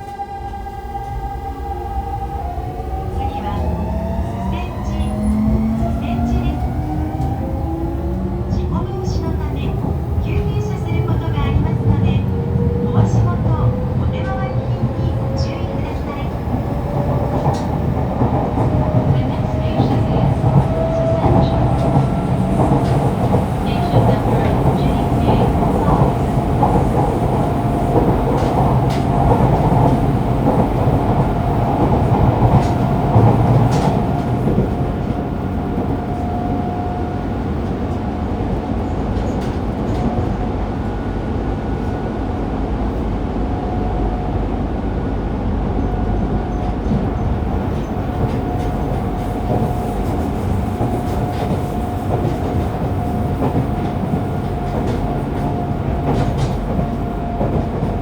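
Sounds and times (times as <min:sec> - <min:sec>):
train wheels rumbling on rail: 0:00.0 - 0:58.0
train clatter: 0:03.3 - 0:41.0, 0:45.6 - 0:58.0.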